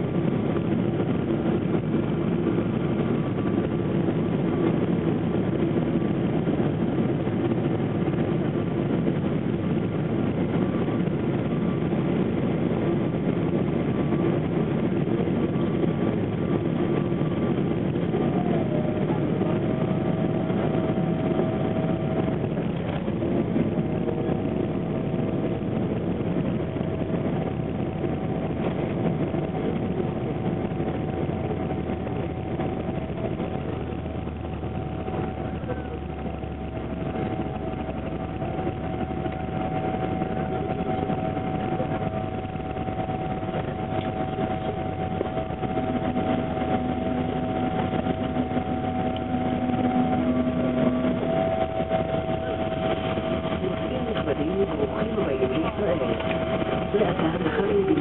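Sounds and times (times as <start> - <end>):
airflow and engine noise: 0.0 - 58.0
steady whining tone: 0.0 - 58.0.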